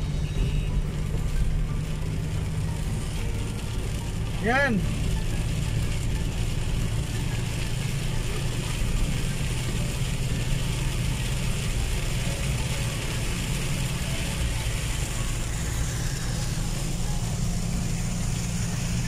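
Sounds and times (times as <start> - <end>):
car engine and tyres rumbling: 0.0 - 19.0
rain and road spray hiss: 0.0 - 19.0.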